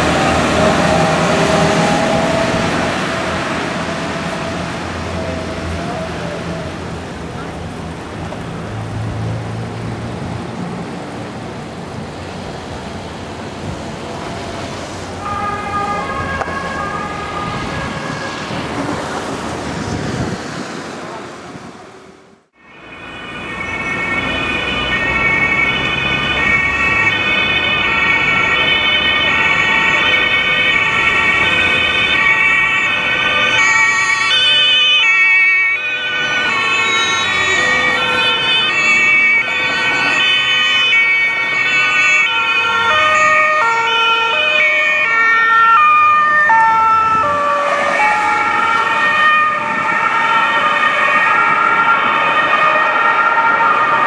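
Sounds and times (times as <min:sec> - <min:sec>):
police two-tone sirens: 0:00.0 - 0:08.5, 0:13.6 - 0:19.0, 0:22.5 - 0:54.0
traffic noise: 0:00.0 - 0:54.0.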